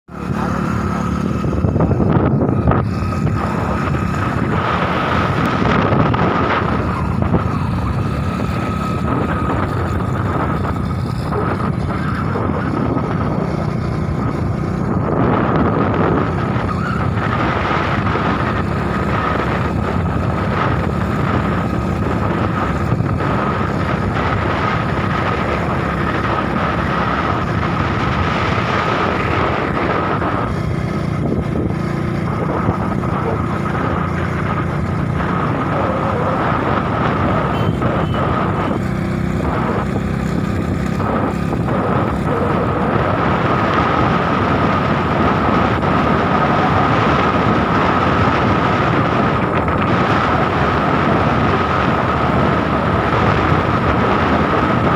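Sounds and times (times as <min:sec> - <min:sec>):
motorcycle running: 0:00.0 - 0:54.9
wind rushing over microphone: 0:00.0 - 0:54.9.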